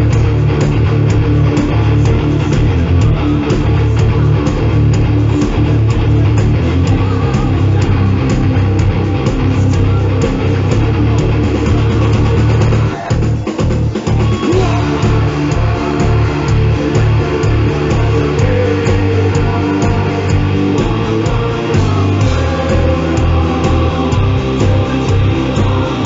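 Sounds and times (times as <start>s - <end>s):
live heavy metal band: 0.0s - 26.0s.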